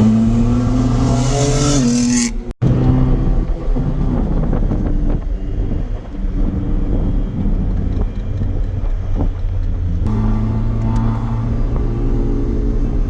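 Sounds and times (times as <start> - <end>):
car engine running: 0.0 - 13.0
wind buffeting microphone: 2.4 - 13.0.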